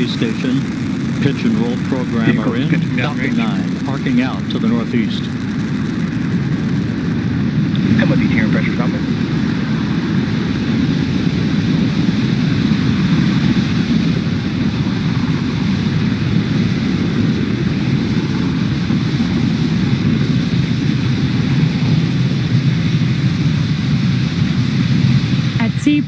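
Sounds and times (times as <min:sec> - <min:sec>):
rocket engines rumbling: 0:00.0 - 0:26.0.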